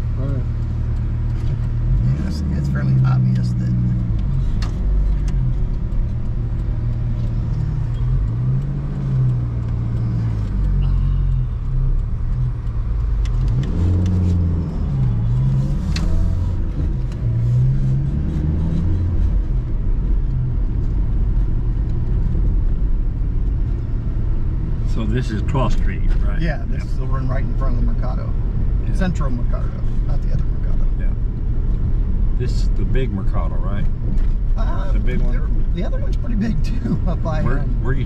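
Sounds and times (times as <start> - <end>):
car engine: 0.0 - 38.0
road noise inside car: 0.0 - 38.0.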